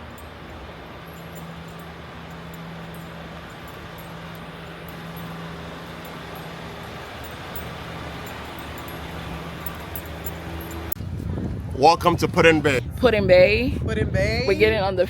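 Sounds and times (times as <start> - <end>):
car road and engine noise: 0.0 - 15.0
low steady hum: 0.0 - 15.0.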